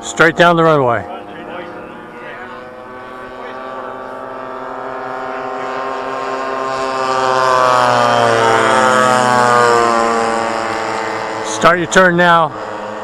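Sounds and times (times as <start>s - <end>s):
model plane engines droning: 0.0s - 13.0s.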